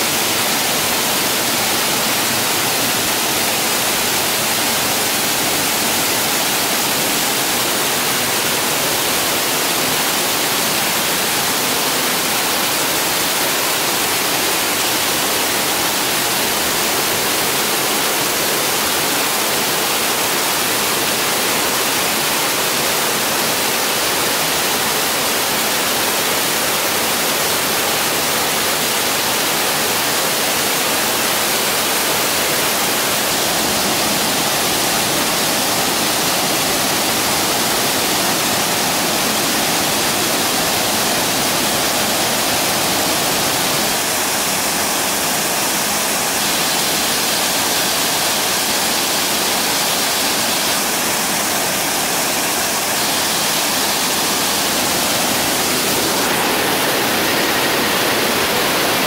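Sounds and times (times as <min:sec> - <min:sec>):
waterfall rushing into pool: 0:00.0 - 0:59.0.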